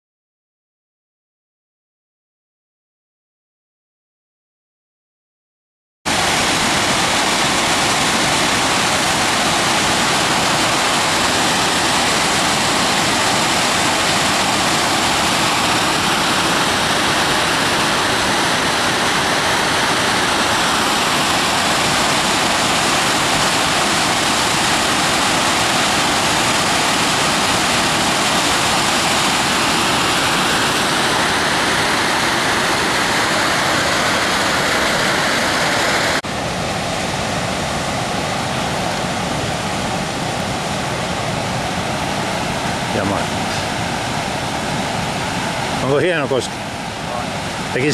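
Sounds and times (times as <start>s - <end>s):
whitewater rushing over rock: 6.1s - 47.9s.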